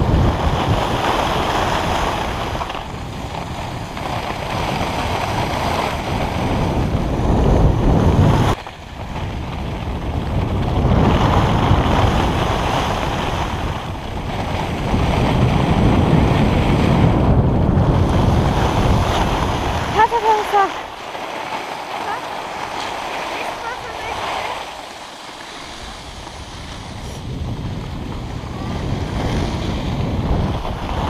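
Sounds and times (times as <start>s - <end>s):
skis sliding on snow: 0.0s - 31.0s
wind buffeting microphone: 0.0s - 31.0s.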